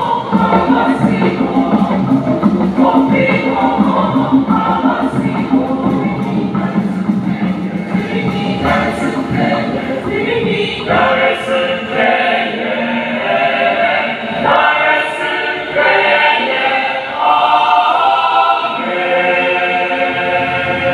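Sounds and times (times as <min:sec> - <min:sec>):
choir singing: 0:00.0 - 0:20.9.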